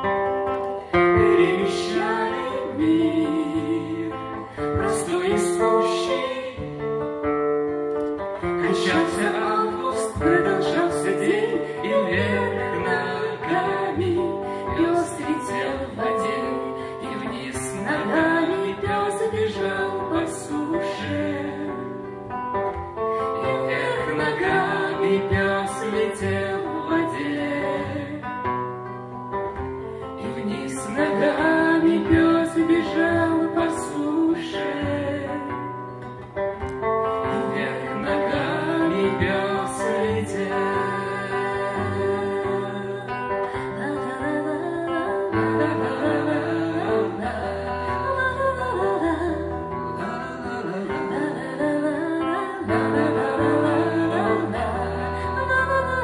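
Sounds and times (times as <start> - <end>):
strummed acoustic guitar: 0.0 - 56.0
woman singing: 0.8 - 7.0, 8.4 - 28.4, 30.0 - 36.0, 37.2 - 56.0.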